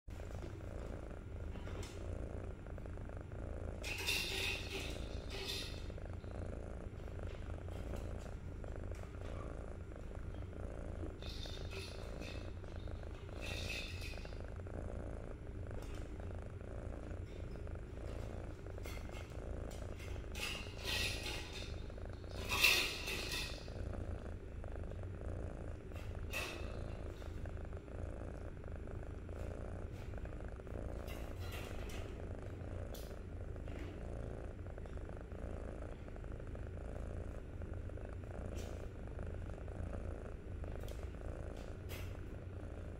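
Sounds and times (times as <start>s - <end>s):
kitten purring: 0.1s - 42.9s.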